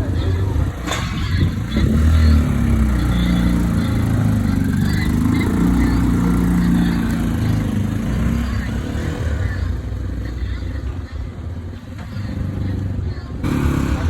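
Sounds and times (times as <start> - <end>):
motorcycle tipper engine running: 0.0 - 14.0.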